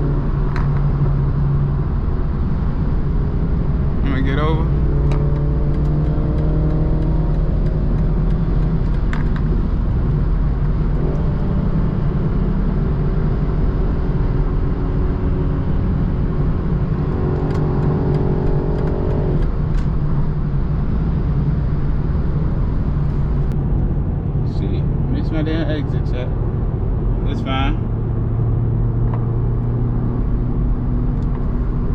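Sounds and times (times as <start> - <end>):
car engine cruising: 0.0 - 31.9
road noise: 0.0 - 31.9.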